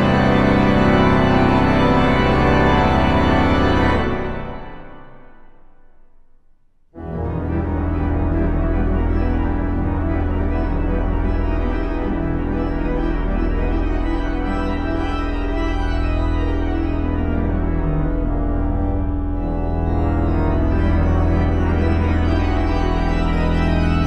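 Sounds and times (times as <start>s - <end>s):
pipe organ chords: 0.0s - 5.5s, 7.0s - 24.0s.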